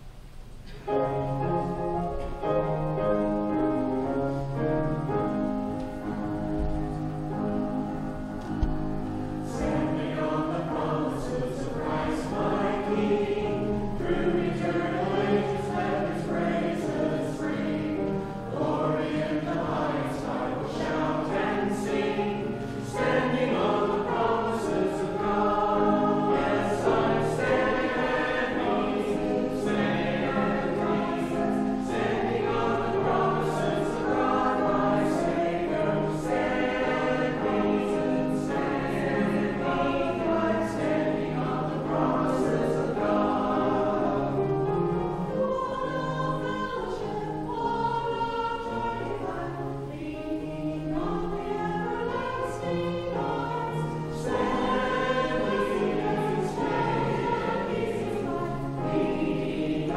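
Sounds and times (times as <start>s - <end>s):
choir singing: 0.9s - 59.9s.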